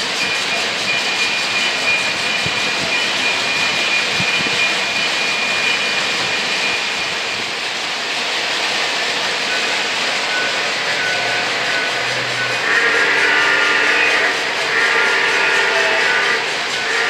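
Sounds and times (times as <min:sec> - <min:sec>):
model train wheels rolling: 0:00.0 - 0:17.0
thin high whine: 0:00.0 - 0:17.0.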